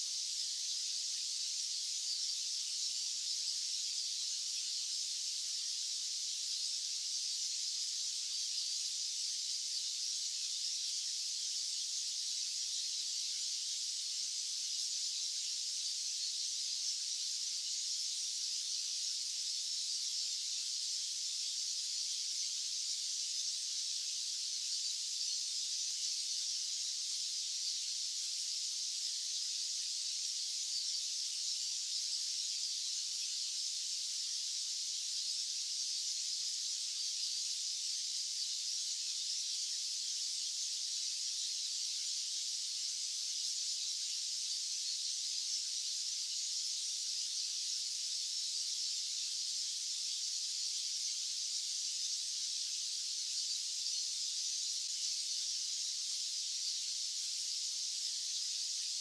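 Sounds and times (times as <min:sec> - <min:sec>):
high-pitched white noise hiss: 0:00.0 - 0:59.0.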